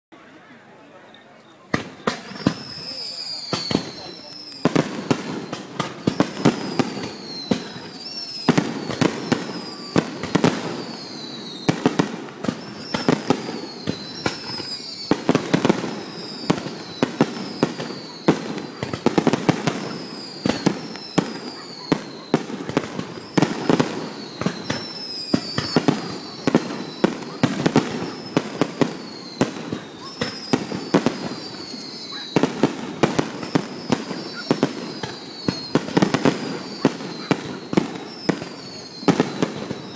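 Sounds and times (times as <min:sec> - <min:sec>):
firework bangs: 0:01.7 - 0:39.9
firework whistles falling: 0:01.8 - 0:39.9.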